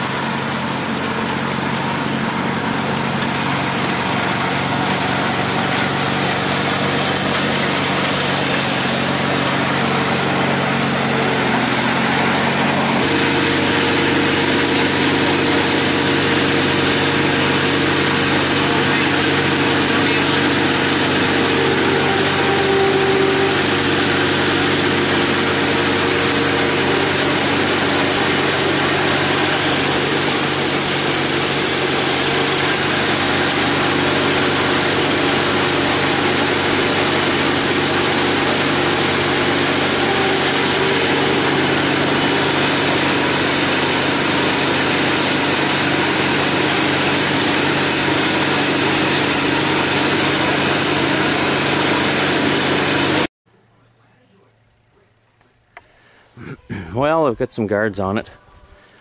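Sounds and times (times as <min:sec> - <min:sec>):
small gasoline engines running: 0:00.0 - 0:59.0.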